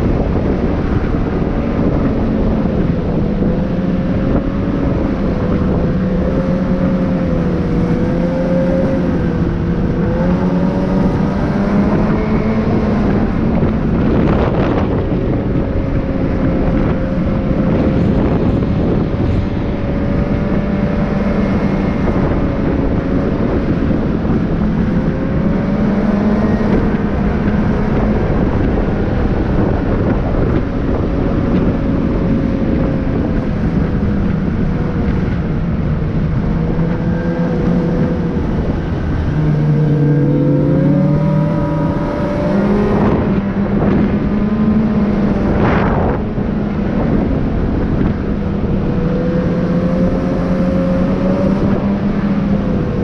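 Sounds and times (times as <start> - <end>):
rising and falling whine: 0.0 - 53.0
vehicle engine and road drone: 0.0 - 53.0.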